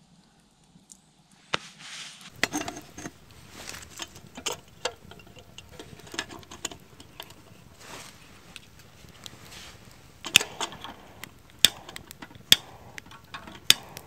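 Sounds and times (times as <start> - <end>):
dry wood crackling: 2.2 - 14.0.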